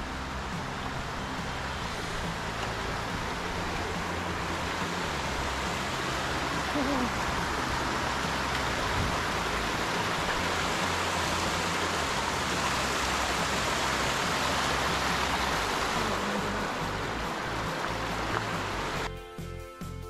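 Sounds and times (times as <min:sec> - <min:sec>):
stream water rushing: 0:00.0 - 0:19.1.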